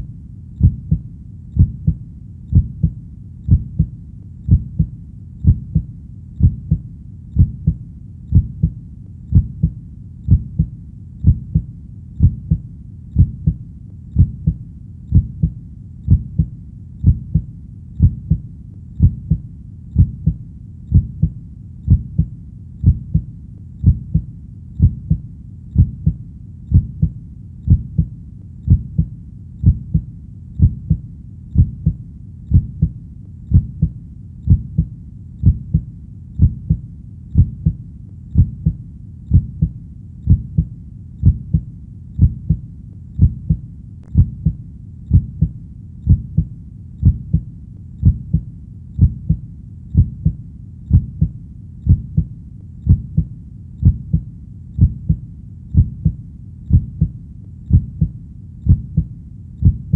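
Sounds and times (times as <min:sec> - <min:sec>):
faint low rumble: 0:00.0 - 0:59.9
heartbeat thumping: 0:00.6 - 0:13.6, 0:14.2 - 0:42.6, 0:43.2 - 0:59.9.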